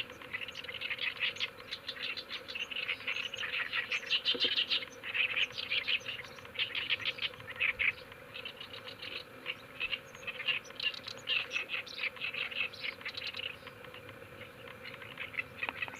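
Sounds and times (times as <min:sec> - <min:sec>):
reed warbler singing: 0:00.0 - 0:15.9.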